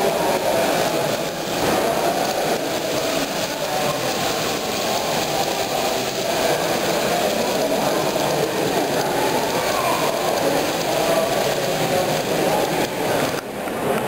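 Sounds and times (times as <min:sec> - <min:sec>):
exhibition hall hubbub: 0:00.0 - 0:14.0.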